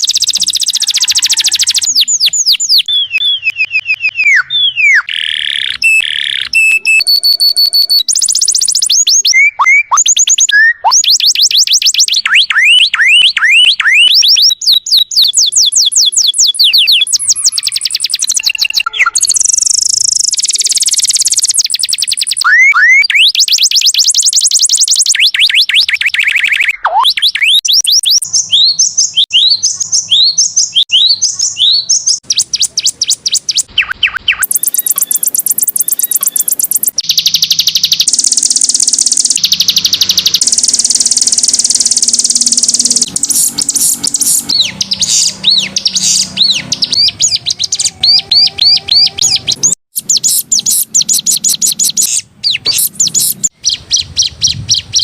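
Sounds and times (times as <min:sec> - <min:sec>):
songbird trills and whistles: 0:00.0 - 0:55.0.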